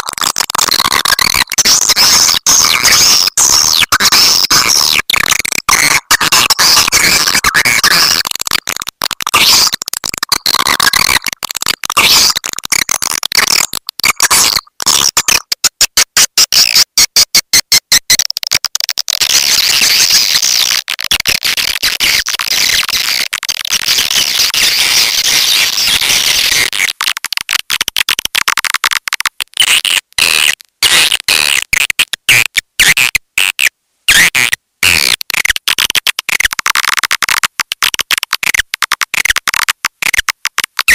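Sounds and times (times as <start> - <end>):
fast clicks: 0.0 - 40.9.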